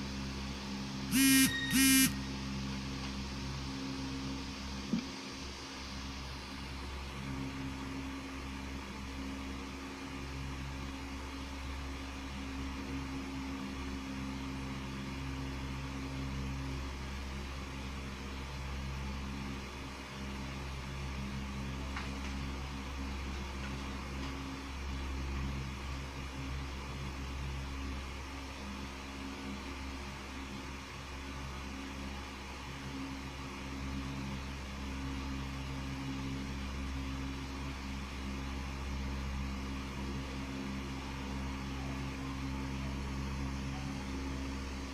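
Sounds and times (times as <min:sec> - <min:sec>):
machine hum with hiss: 0:00.0 - 0:44.9.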